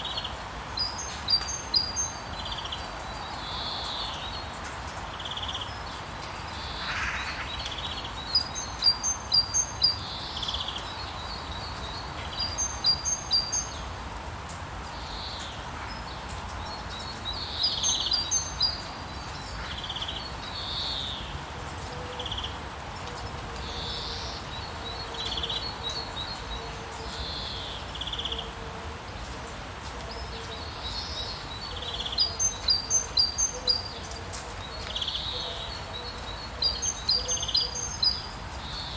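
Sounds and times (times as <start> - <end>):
songbirds chirping: 0.0 - 38.9
steady rainfall: 0.0 - 38.9.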